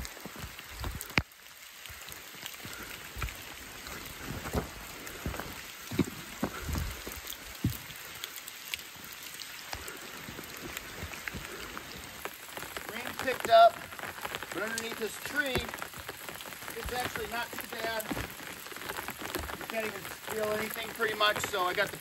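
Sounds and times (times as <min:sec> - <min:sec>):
footsteps on wet trail: 0:00.0 - 0:22.0
steady rain hiss: 0:00.0 - 0:22.0.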